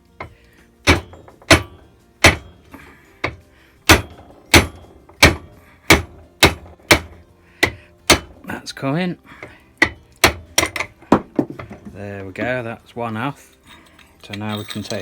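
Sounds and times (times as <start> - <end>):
hammer blows on metal bearing: 0.0 - 12.7.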